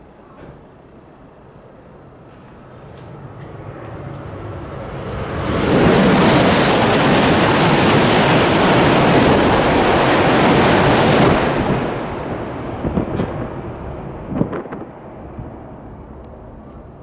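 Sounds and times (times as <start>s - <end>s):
train rushing past: 1.4s - 17.0s
wind buffeting microphone: 3.3s - 17.0s.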